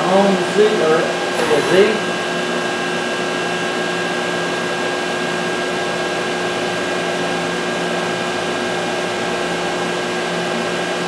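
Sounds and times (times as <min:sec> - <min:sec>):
machine whirring hum: 0:00.7 - 0:10.8.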